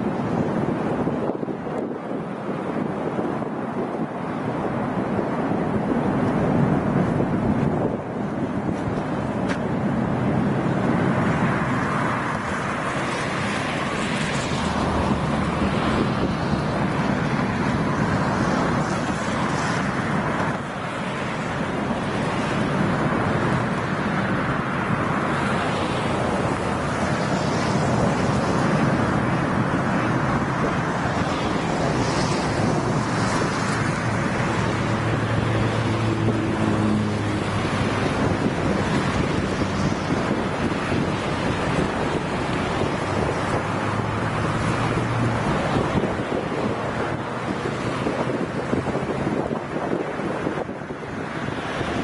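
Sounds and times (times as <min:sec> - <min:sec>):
wind on microphone: 0:00.0 - 0:52.0.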